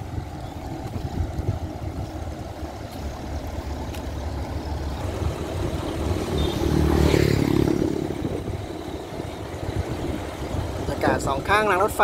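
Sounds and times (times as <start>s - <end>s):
low traffic rumble: 0.0s - 12.0s
vehicle passing by: 0.7s - 11.3s.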